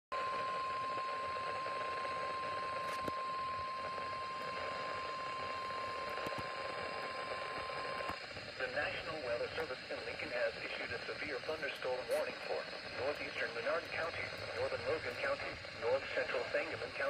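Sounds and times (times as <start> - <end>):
steady warning alarm tone: 0.1 - 17.0
radio static hiss: 0.2 - 17.0.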